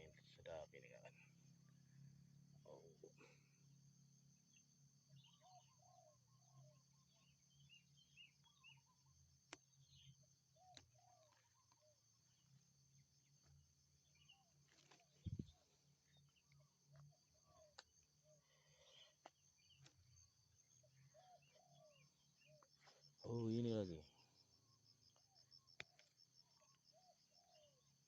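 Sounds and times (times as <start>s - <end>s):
birds chirping faintly: 0.0s - 28.0s
insect drone: 0.0s - 28.0s.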